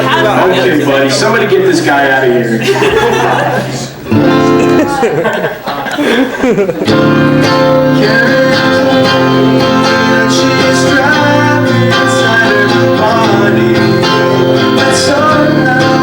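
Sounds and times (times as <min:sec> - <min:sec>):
live band with strummed guitars: 0:00.0 - 0:16.0.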